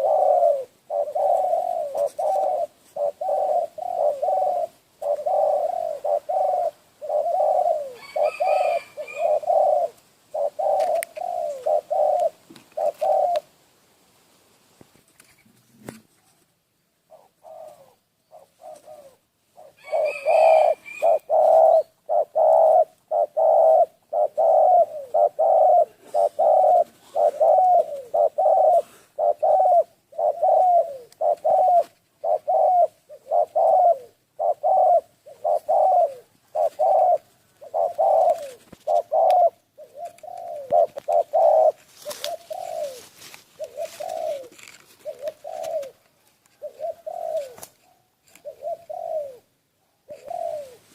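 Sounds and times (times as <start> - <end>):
bird calling: 0.0 - 13.5, 17.0 - 50.9.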